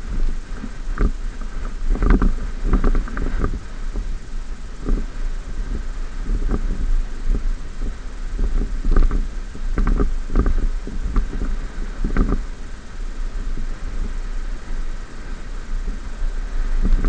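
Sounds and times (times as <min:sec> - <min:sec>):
truck low rumble: 0:00.0 - 0:17.0.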